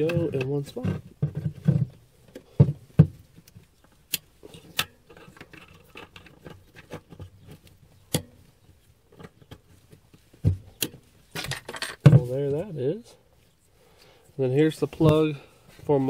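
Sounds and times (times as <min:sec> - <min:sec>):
wires rustling and scraping: 0:00.0 - 0:16.0.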